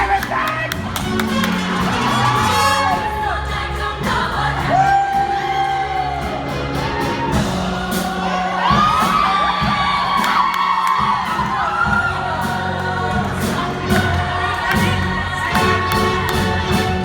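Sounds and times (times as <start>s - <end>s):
pop music with singing: 0.0s - 17.0s.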